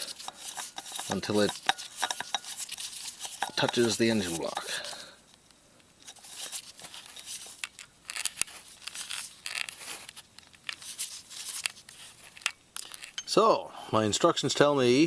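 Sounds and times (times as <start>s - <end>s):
hands handling oil filter: 0.0s - 13.3s.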